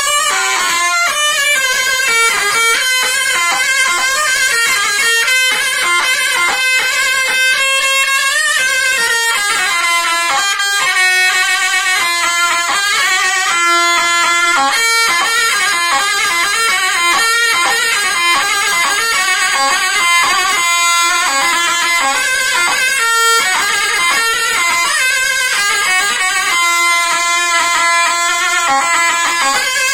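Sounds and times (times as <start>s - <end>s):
instrumental folk dance music: 0.0s - 29.9s.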